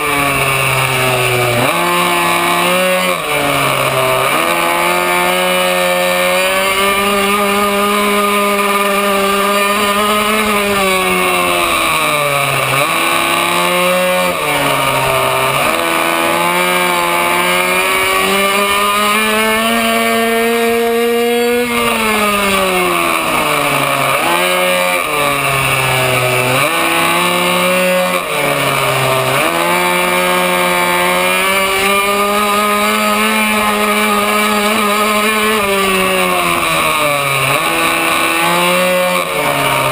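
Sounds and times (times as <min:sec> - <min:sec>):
minibike engine revving: 0:00.0 - 0:39.9.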